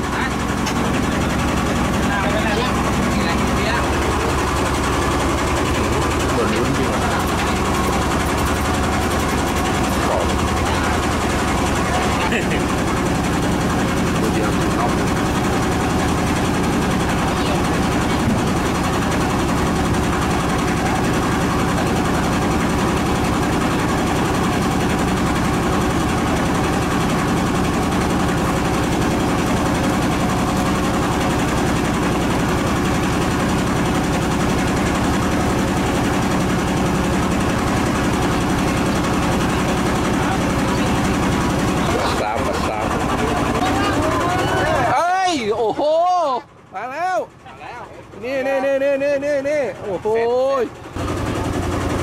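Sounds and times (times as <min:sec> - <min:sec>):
boat diesel engine chugging: 0:00.0 - 0:52.0.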